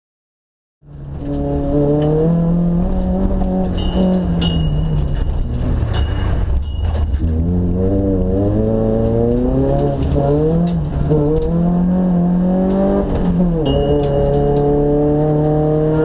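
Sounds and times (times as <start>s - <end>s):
car engine revving: 0.8s - 16.0s.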